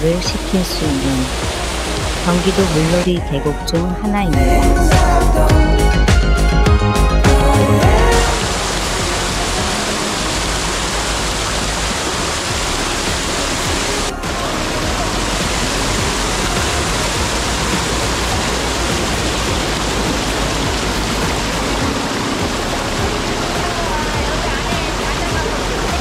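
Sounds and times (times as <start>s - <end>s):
stream rushing over boulders: 0.0s - 3.2s, 7.3s - 26.0s.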